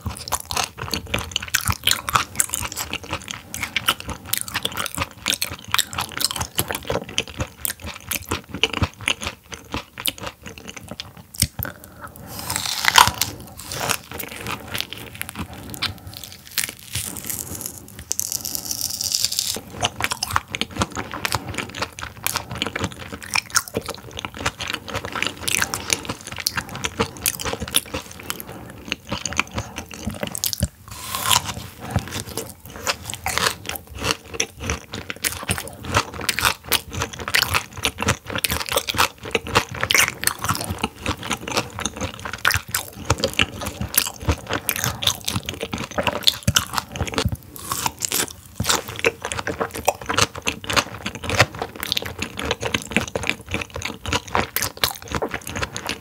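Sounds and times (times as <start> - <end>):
crunchy chewing mouth sounds: 0.0 - 56.0.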